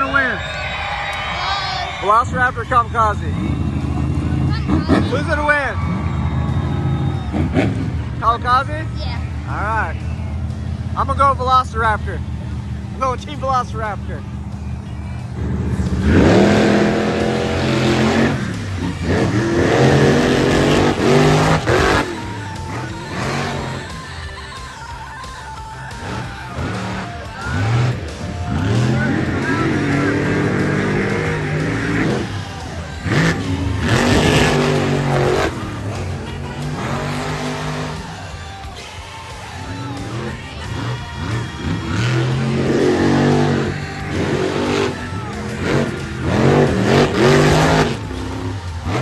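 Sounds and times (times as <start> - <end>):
monster truck engines revving: 0.0 - 49.0.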